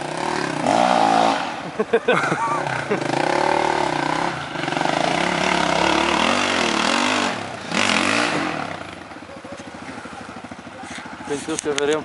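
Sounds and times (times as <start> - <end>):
motorcycle engine revving hard: 0.0 - 12.0.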